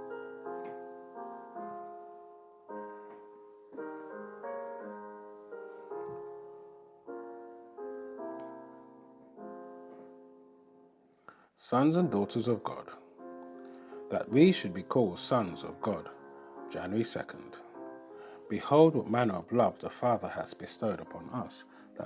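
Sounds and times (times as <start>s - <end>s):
soft piano chords: 0.0s - 22.0s.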